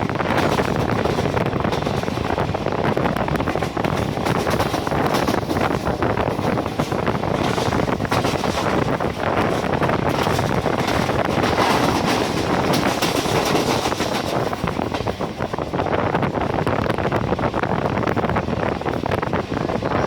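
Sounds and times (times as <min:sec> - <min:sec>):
train rushing with rattling clicks: 0:00.0 - 0:20.0
wind buffeting microphone: 0:00.0 - 0:20.0.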